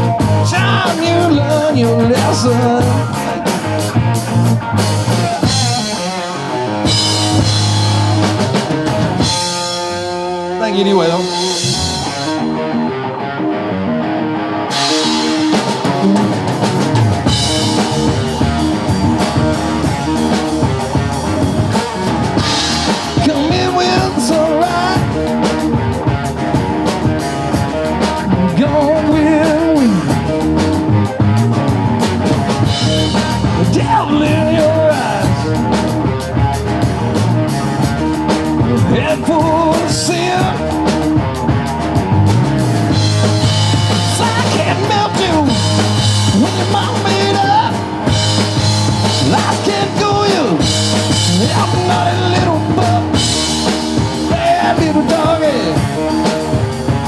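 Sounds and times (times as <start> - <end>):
electric guitar lead bent notes: 0.0 - 57.0
rock band playing: 0.0 - 57.0.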